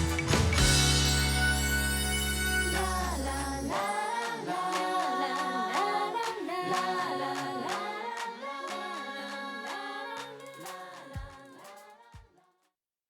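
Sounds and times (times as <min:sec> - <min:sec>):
pop song with vocal-like lead: 0:00.0 - 0:12.3.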